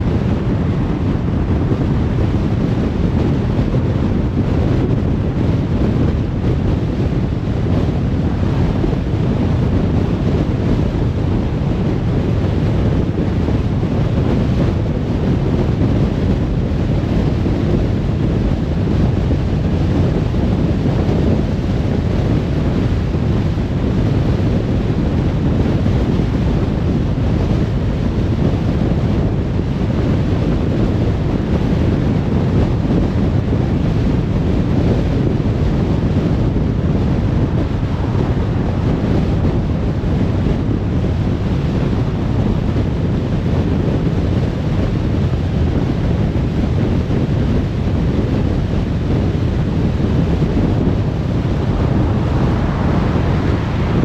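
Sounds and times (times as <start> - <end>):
car tyre noise on motorway: 0.0 - 54.0
wind noise: 0.0 - 54.0.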